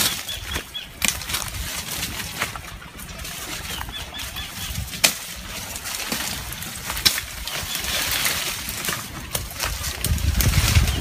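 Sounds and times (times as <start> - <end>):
branches rustling: 0.0 - 11.0
footsteps crunching dry leaves: 0.0 - 11.0.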